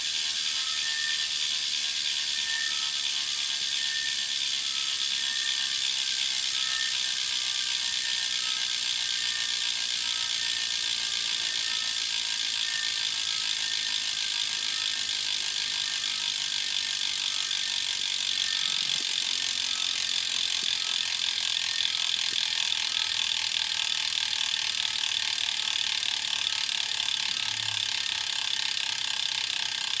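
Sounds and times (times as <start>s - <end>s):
high-pitched bicycle hub whine: 0.0s - 30.0s.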